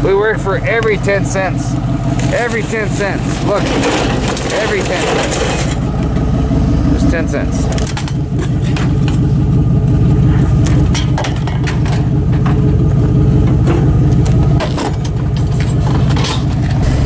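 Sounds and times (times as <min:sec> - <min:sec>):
truck engine humming: 0:00.0 - 0:17.0
rattles and clicks: 0:02.1 - 0:06.3, 0:07.2 - 0:17.0.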